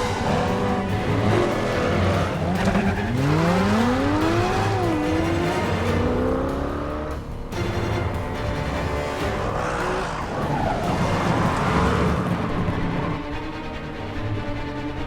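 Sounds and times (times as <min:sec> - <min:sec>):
film score music: 0:00.0 - 0:15.0
sports car engines revving: 0:00.0 - 0:15.0
tires squealing: 0:00.0 - 0:15.0.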